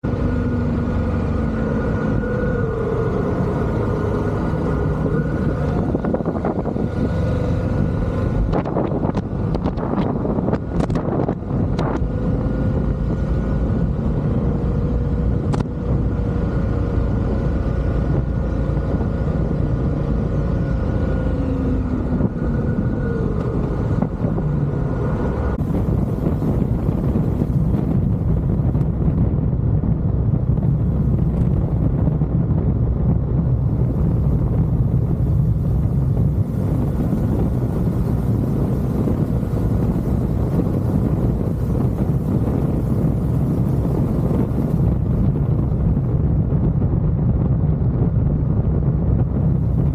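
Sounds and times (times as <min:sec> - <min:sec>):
motorcycle road and wind noise: 0:00.0 - 0:49.9.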